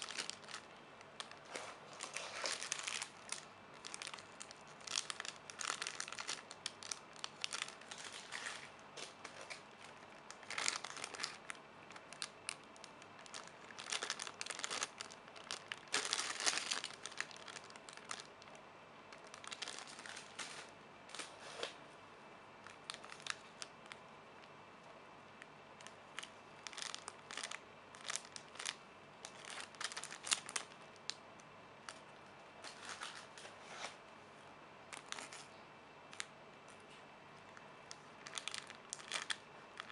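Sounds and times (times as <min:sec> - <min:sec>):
plastic wrapping crinkling: 0:00.0 - 0:21.7, 0:22.6 - 0:24.0, 0:25.8 - 0:31.2, 0:32.6 - 0:34.0, 0:34.9 - 0:35.5, 0:37.9 - 0:39.9.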